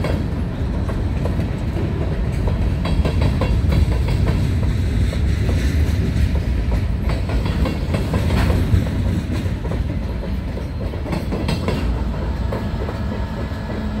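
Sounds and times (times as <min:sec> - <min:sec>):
train wheels rumbling on rails: 0:00.0 - 0:14.0
wheels clacking over rail joints: 0:00.0 - 0:14.0.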